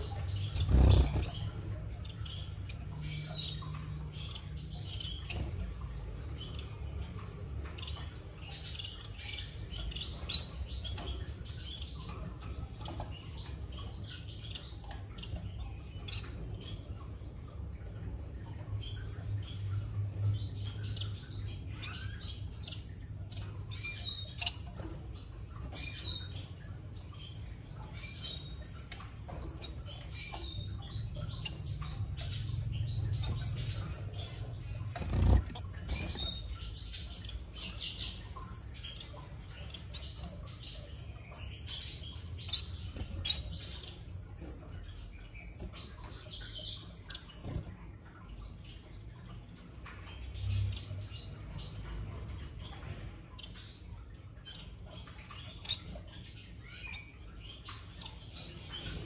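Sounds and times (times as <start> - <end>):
finches chirping: 0.0 - 59.0.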